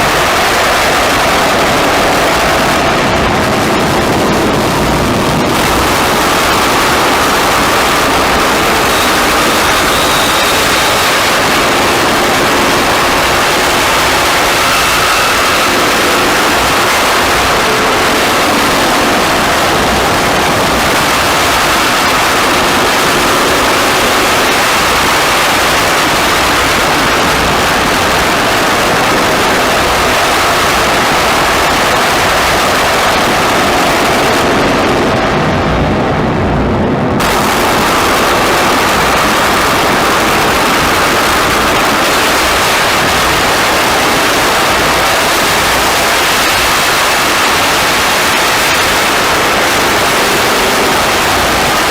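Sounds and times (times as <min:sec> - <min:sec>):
noise music static hiss: 0:00.0 - 0:51.9.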